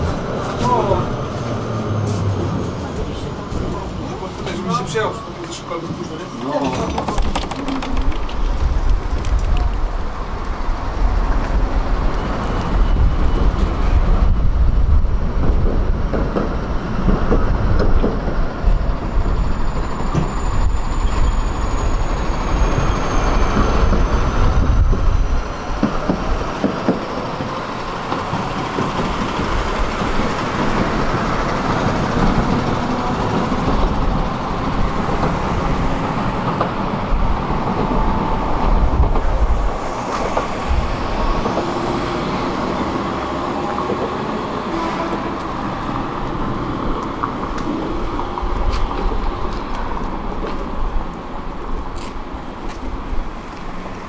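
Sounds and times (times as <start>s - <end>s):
tram wheels rumbling: 0.0s - 54.0s.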